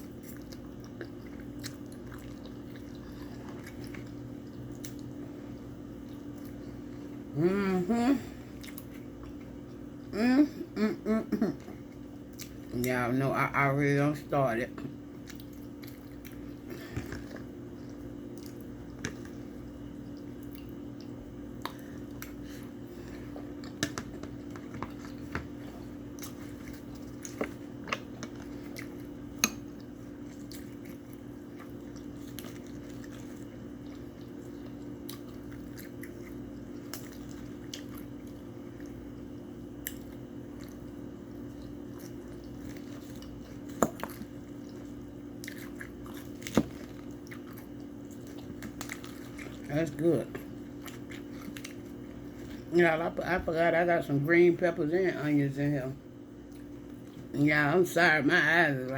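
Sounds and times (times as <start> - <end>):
person chewing food: 0.0 - 7.4, 8.3 - 13.0, 14.8 - 52.8, 56.3 - 57.3
steady low hum: 0.0 - 58.9.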